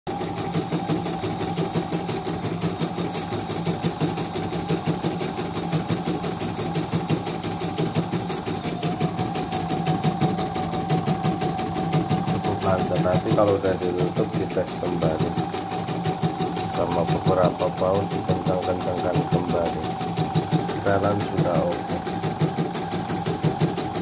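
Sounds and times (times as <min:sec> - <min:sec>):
embroidery machine needle clatter: 0:00.1 - 0:24.0
motor hum: 0:00.1 - 0:24.0.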